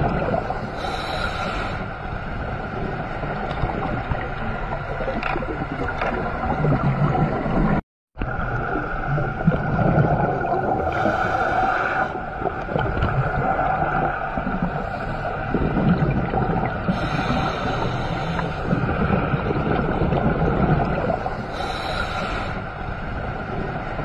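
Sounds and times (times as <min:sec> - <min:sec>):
hum: 0:00.0 - 0:24.0
muffled underwater rumble: 0:00.0 - 0:24.0.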